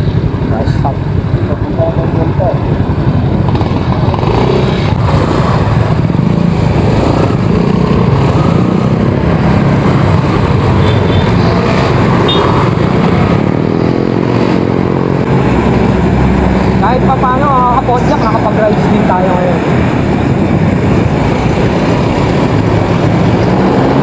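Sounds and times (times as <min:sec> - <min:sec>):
motorcycles and cars passing: 0:00.0 - 0:24.0
wind buffeting microphone: 0:01.8 - 0:24.0.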